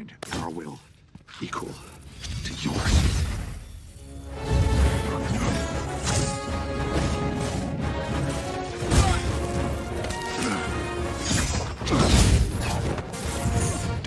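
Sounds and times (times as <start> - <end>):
orchestral film score: 0.0 - 14.0.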